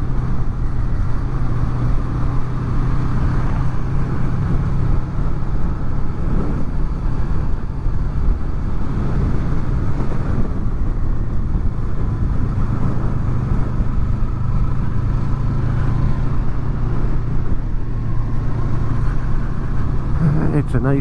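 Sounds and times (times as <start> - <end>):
motorcycle engine cruising: 0.0 - 21.0
road noise: 0.0 - 21.0.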